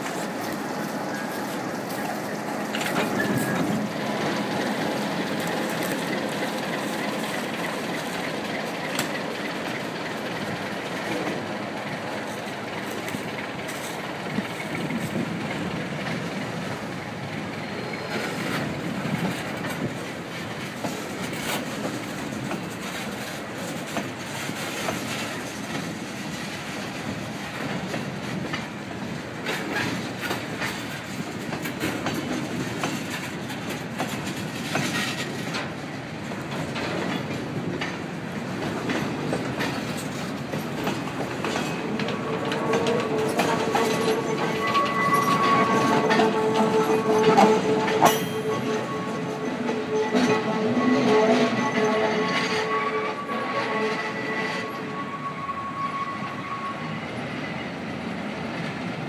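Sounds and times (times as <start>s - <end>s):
diesel locomotive engine: 0.0s - 59.0s
train wheels clicking on rail joints: 0.0s - 59.0s.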